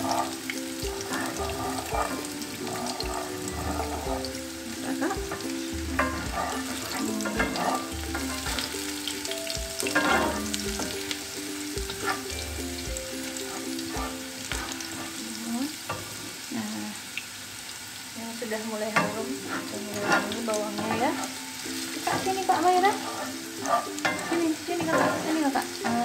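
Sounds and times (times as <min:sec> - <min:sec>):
spatula scraping and tapping pan: 0:00.0 - 0:11.2, 0:11.8 - 0:15.2, 0:19.0 - 0:26.0
vegetables sizzling in hot oil: 0:00.0 - 0:26.0.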